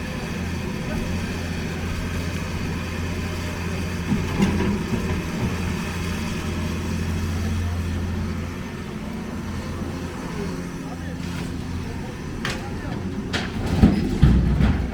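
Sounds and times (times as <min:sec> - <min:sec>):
heavy diesel engine running: 0:00.0 - 0:14.9.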